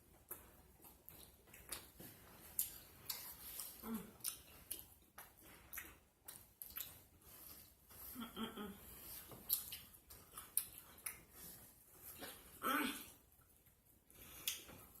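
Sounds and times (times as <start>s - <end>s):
chewing with mouth smacking: 0.0s - 8.2s, 8.8s - 12.6s, 13.3s - 15.0s.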